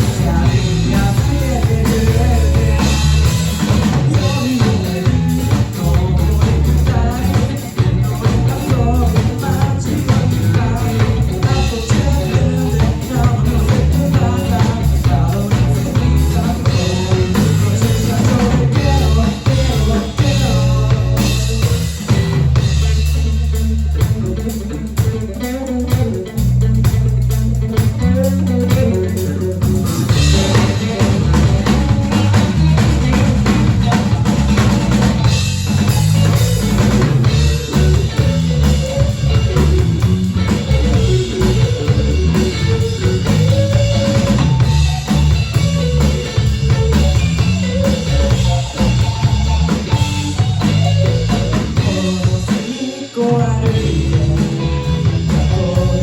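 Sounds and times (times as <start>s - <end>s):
rock band instrumental: 0.0s - 56.0s.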